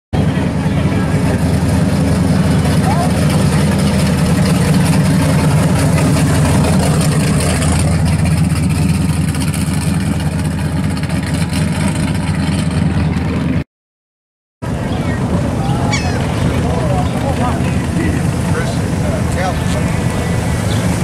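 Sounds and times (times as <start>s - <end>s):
car exhaust rumbling: 0.2s - 13.6s, 14.7s - 21.0s.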